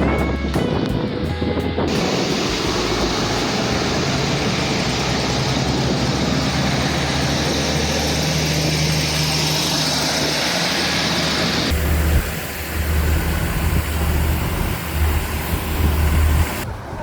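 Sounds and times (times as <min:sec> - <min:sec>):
diesel railcar engine running: 0:00.0 - 0:17.0.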